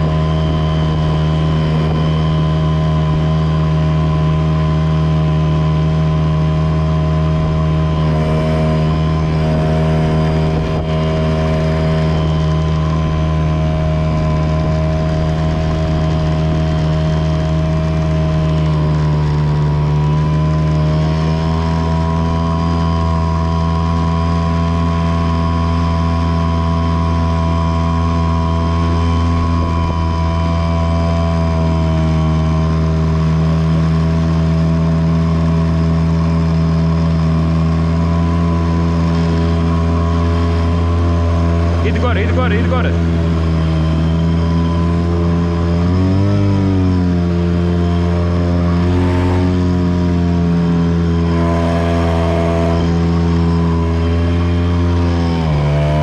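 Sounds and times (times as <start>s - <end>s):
outboard motor droning: 0.0s - 56.0s.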